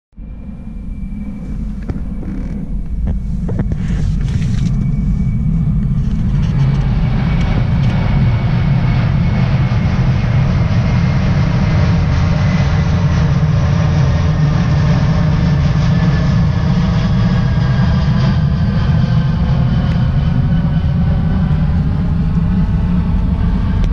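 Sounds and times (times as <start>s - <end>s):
aircraft low rumble: 0.1s - 23.9s
high engine whine: 0.1s - 23.9s.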